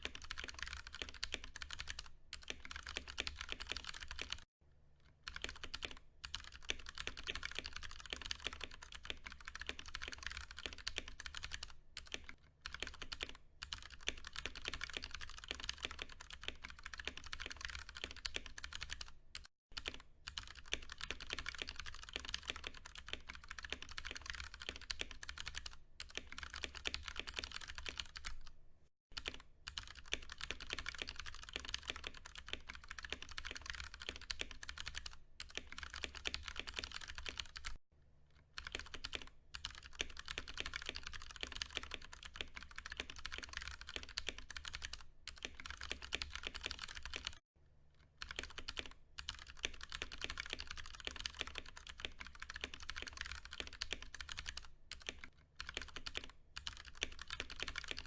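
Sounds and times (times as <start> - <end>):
mechanical keyboard typing: 0.0 - 4.5, 5.2 - 28.5, 29.2 - 37.8, 38.6 - 47.4, 48.2 - 58.0.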